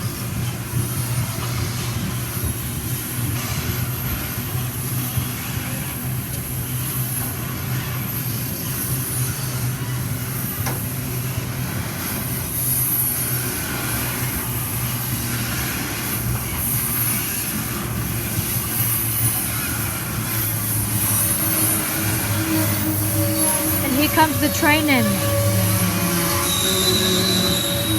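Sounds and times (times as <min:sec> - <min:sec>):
diesel locomotive engines droning: 0:00.0 - 0:27.9.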